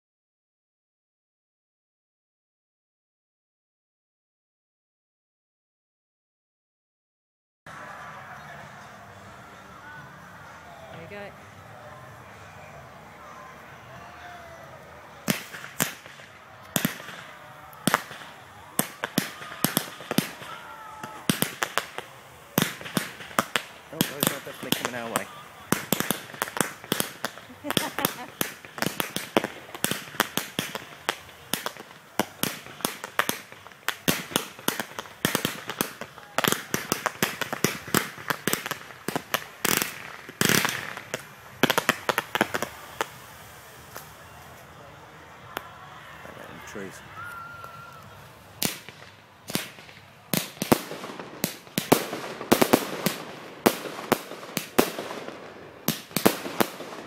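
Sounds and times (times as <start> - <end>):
fireworks bangs: 7.7 - 57.0.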